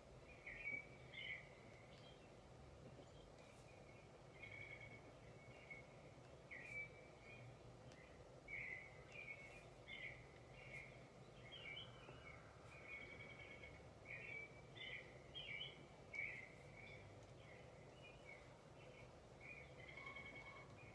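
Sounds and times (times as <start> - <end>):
faint birdsong chirps and trills: 0.0 - 20.9.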